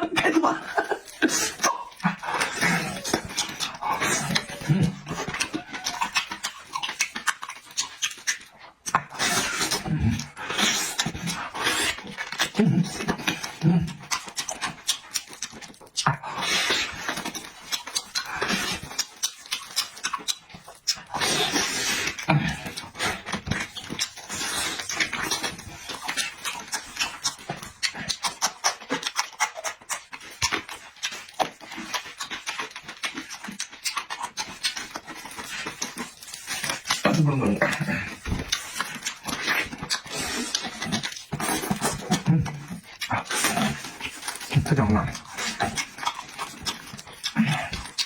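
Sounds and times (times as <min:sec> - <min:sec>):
wet chewing: 0:00.0 - 0:48.0
mouth-smacking clicks: 0:01.3 - 0:48.0.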